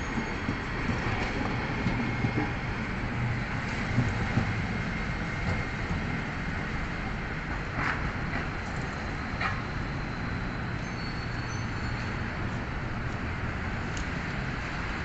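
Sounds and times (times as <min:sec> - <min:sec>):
city street traffic rumble: 0:00.0 - 0:15.0
streetcar running: 0:00.0 - 0:15.0.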